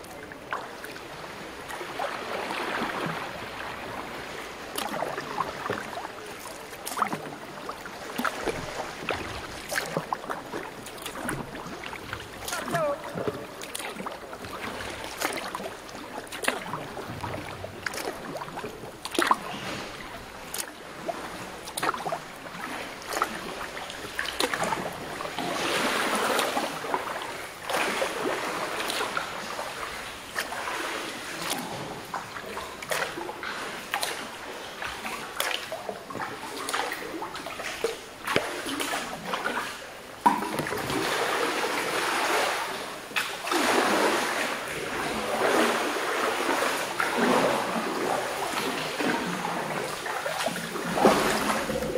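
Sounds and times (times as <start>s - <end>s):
paddle splashes: 0.0s - 51.9s
sloshing water: 0.0s - 51.9s.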